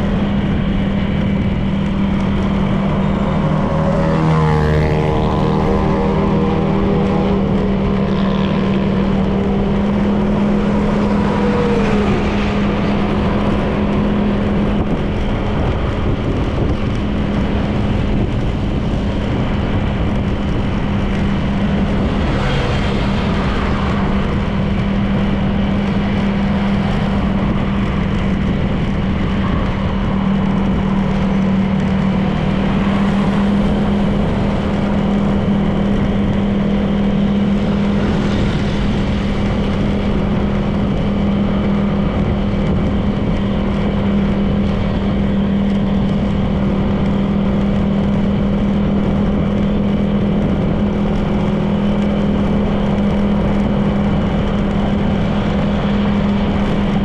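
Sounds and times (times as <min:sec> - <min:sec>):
scooter engine cruising: 0:00.0 - 0:57.0
wind noise on microphone: 0:00.0 - 0:57.0.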